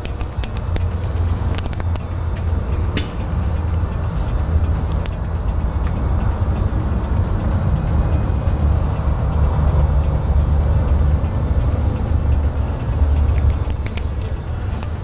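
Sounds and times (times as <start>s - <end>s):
low rumble: 0.6s - 15.0s.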